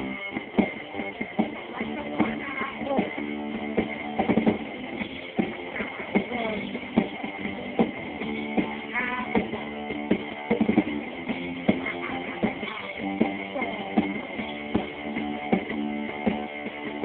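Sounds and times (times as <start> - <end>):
drum kit beating: 0.0 - 17.0
strummed guitar chords: 0.0 - 17.0.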